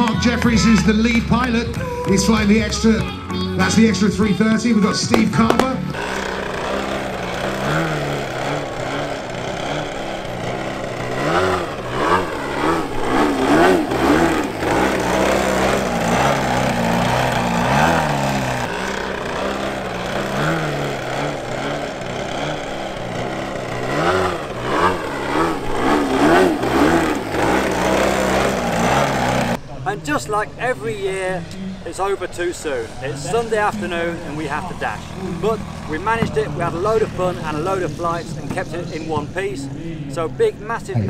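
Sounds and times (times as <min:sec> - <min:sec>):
model plane engines: 0:00.0 - 0:41.0.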